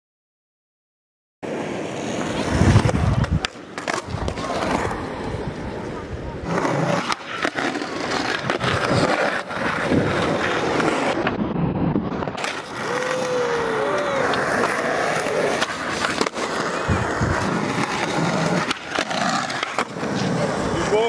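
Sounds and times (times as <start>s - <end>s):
skateboard wheels rolling on concrete: 1.4s - 21.0s
skateboard clacks: 2.3s - 11.4s, 12.0s - 21.0s.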